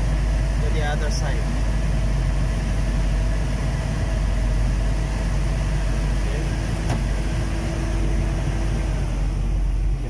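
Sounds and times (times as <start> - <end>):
diesel engine running: 0.0 - 10.0
faint steady whine: 0.0 - 10.0.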